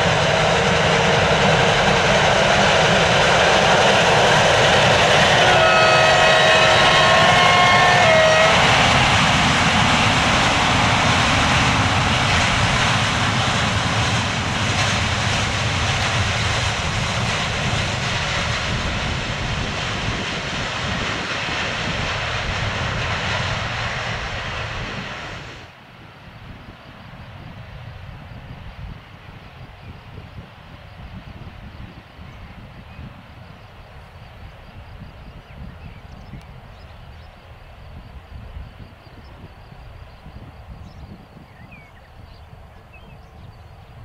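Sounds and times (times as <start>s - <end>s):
freight train rumbling past: 0.0s - 44.0s.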